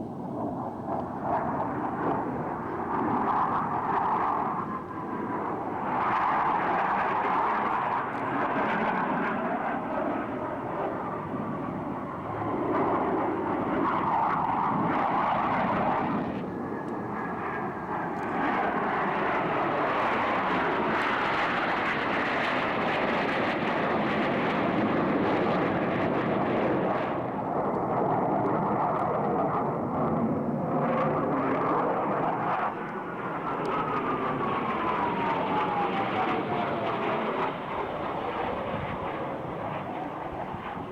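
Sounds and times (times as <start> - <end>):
jet engines rushing: 0.0 - 40.9.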